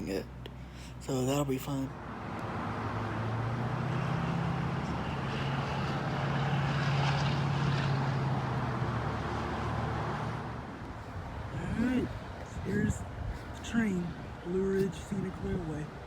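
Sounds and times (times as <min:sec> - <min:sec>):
engine running: 0:01.1 - 0:16.0.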